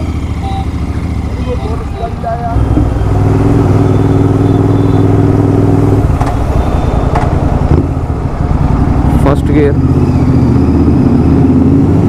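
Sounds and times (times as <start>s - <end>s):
motorcycle engine running loud: 0.0s - 12.0s.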